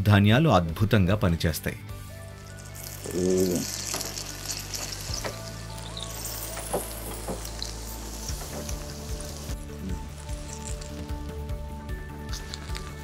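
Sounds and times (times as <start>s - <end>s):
soft background music: 0.0s - 13.0s
batter sizzling on a hot pan: 2.1s - 13.0s.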